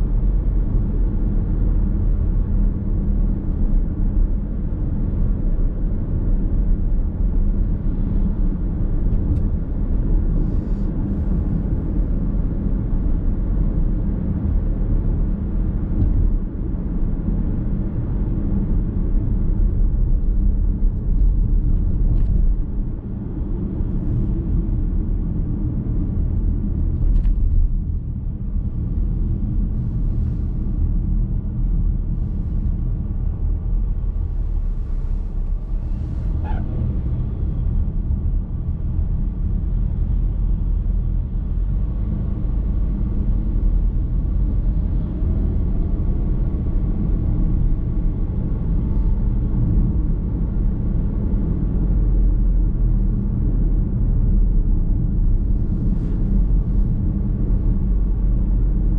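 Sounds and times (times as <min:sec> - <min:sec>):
engine and tyre road rumble: 0:00.0 - 0:58.9.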